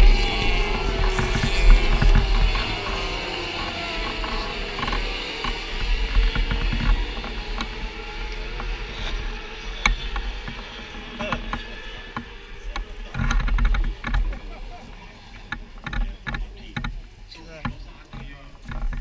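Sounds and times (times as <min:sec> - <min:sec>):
distant racing engines: 0:00.0 - 0:19.0
wind buffeting microphone: 0:00.0 - 0:19.0.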